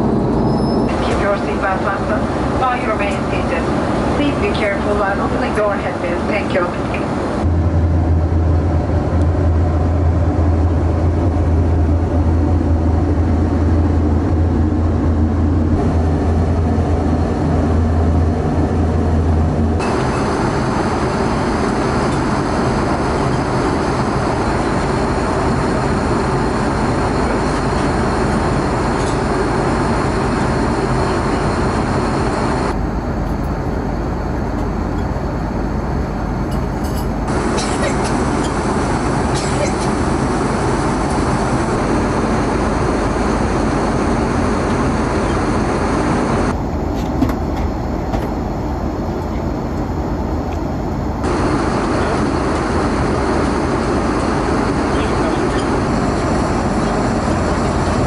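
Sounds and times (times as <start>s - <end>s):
airplane cabin noise: 0.0s - 58.0s
strong low hum: 0.0s - 58.0s.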